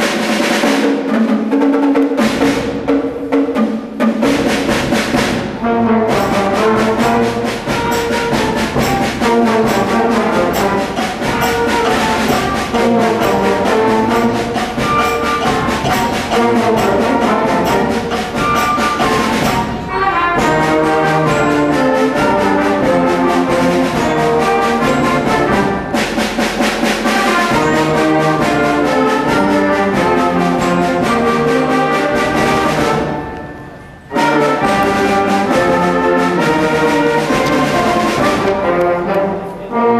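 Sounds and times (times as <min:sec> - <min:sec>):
concert band playing: 0:00.0 - 0:39.9.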